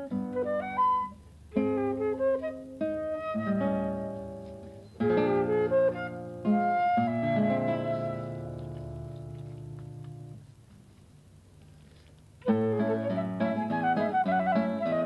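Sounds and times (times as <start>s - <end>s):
classical guitar chords: 0.0s - 10.7s, 12.4s - 15.0s.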